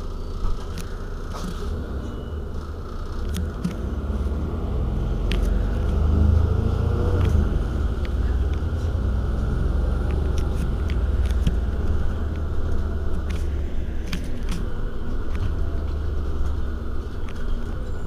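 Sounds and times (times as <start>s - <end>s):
bus engine idling: 0.0s - 18.0s.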